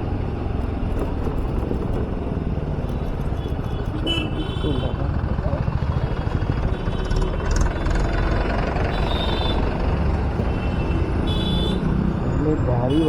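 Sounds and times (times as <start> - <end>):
city traffic noise: 0.0 - 13.0
vehicle engine rumble: 0.0 - 13.0.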